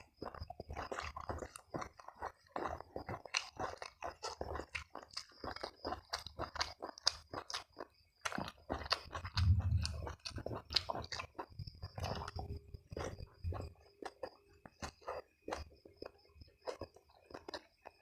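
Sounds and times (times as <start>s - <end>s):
person chewing wet mouth smacks: 0.0s - 18.0s.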